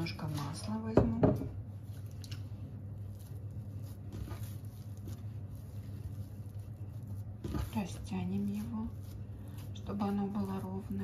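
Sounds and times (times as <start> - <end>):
hands patting dough: 0.0 - 11.0
steady low hum: 0.0 - 11.0.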